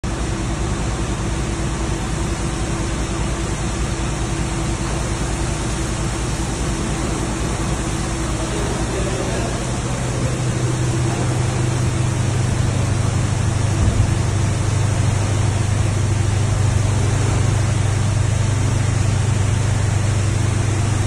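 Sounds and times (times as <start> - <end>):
coach engine droning: 0.1 - 21.0.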